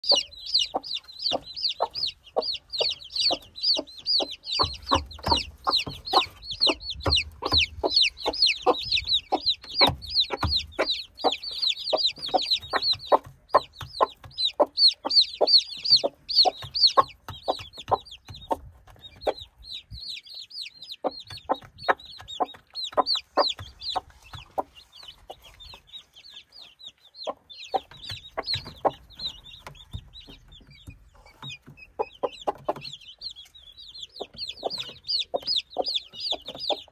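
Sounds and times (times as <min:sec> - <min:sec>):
sharp pecking taps: 0:00.0 - 0:19.5, 0:21.0 - 0:25.8, 0:27.7 - 0:36.9
chicks peeping: 0:00.0 - 0:36.9.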